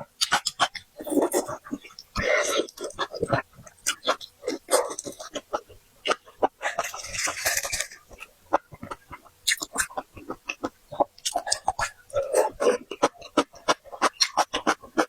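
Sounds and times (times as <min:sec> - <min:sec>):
chewing and sucking seafood: 0:00.1 - 0:15.0.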